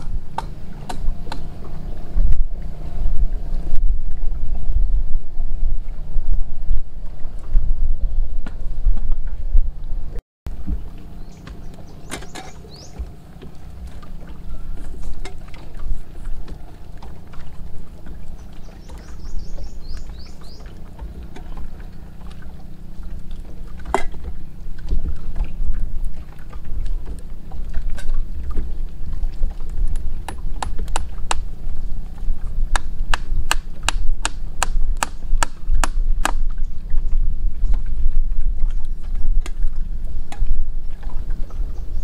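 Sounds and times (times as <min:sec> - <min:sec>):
water lapping around a boat: 0:00.0 - 0:42.0
wind rumble: 0:00.0 - 0:42.0.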